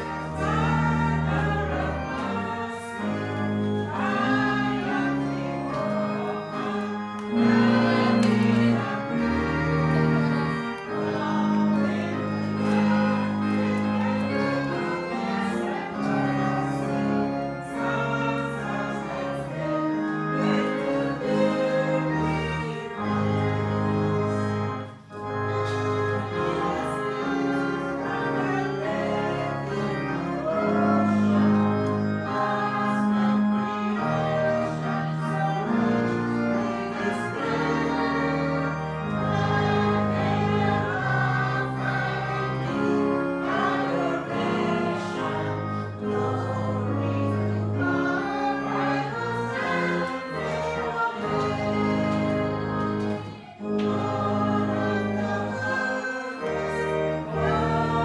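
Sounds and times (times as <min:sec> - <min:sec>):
choir singing: 0:00.0 - 0:58.0
instrumental accompaniment: 0:00.0 - 0:58.0.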